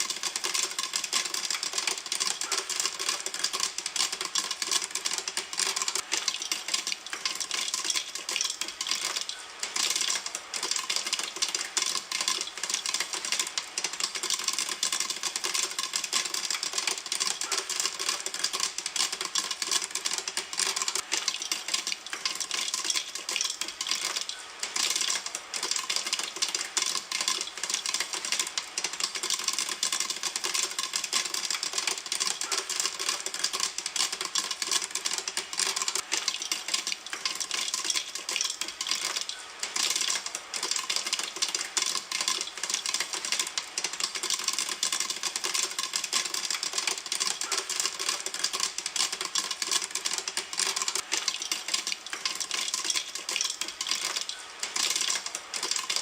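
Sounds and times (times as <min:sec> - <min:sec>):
popcorn popping in a pan: 0:00.0 - 0:56.0.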